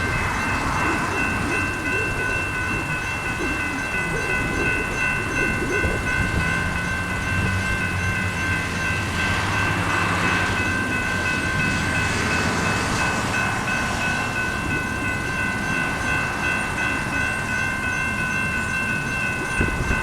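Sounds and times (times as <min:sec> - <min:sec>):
crossing warning bells: 0:00.0 - 0:20.0
road traffic noise: 0:00.0 - 0:20.0.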